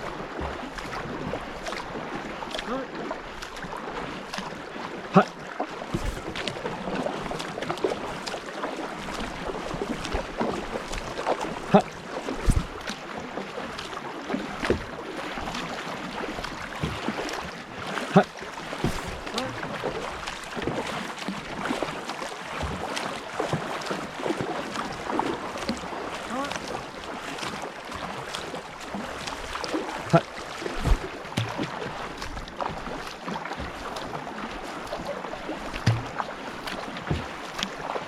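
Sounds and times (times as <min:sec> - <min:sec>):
moving water wash: 0:00.0 - 0:38.0
paddles splashing in water: 0:00.0 - 0:38.0.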